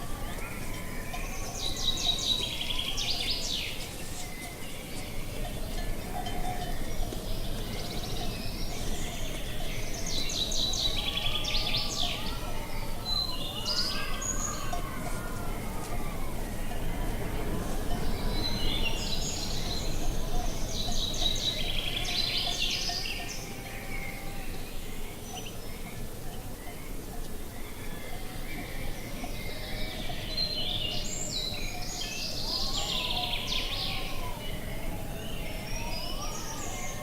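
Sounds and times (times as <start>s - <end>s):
songbirds chirping and trilling: 0.0s - 37.0s.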